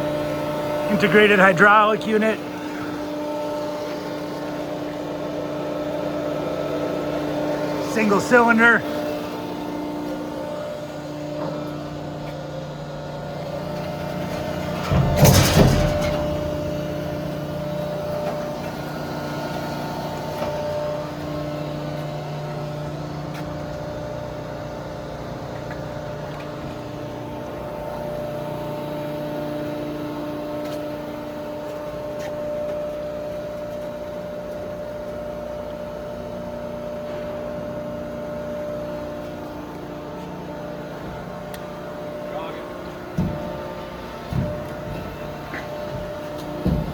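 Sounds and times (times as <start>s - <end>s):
hydraulic power unit humming: 0.0s - 46.9s.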